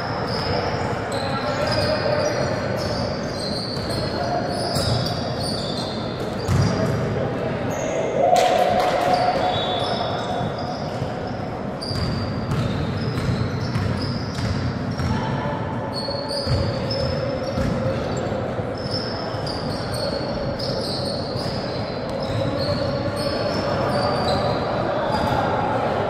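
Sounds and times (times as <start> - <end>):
sneakers squeaking: 0.0 - 7.1, 7.7 - 8.1, 8.8 - 25.8
players' voices echoing: 0.0 - 26.0.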